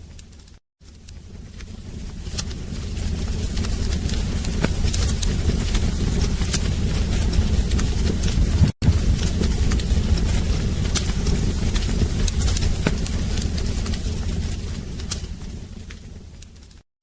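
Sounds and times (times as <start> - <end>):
wood fire crackling and popping: 0.0 - 16.8.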